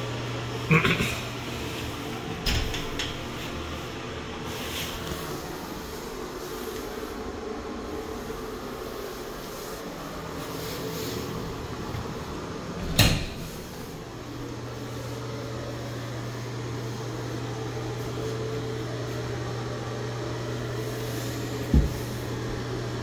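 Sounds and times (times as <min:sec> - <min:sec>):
exhaust fan humming: 0:00.0 - 0:23.0.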